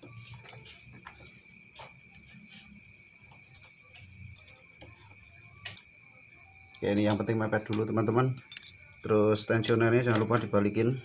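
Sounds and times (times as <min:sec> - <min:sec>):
insect chirping trill: 0:00.0 - 0:11.0.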